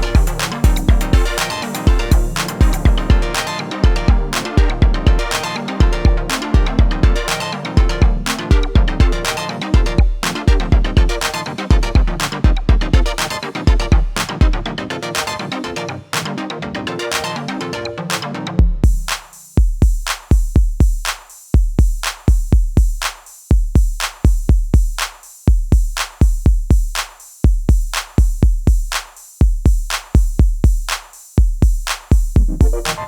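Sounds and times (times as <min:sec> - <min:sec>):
electronic music with drum-machine beat: 0:00.0 - 0:33.0.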